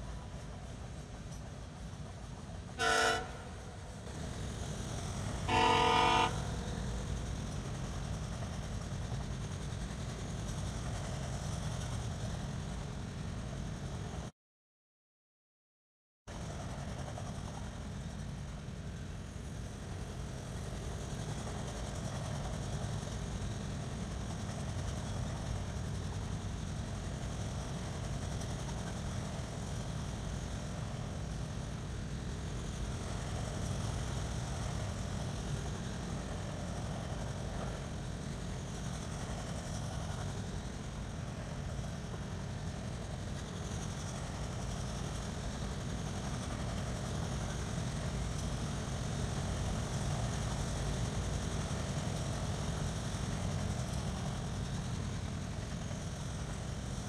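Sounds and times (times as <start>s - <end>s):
train wheels rumbling on rails: 0.0s - 14.3s, 16.3s - 57.0s.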